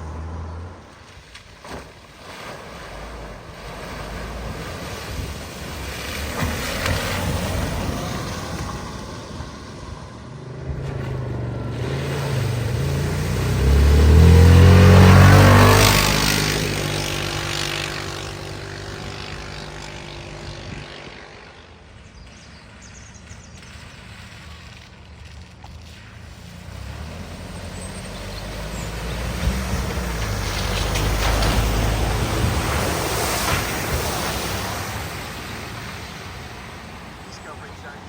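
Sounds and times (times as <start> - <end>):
car engine passing: 0.0 - 22.0, 25.8 - 38.0
water spray rushing: 0.9 - 19.8, 23.4 - 38.0.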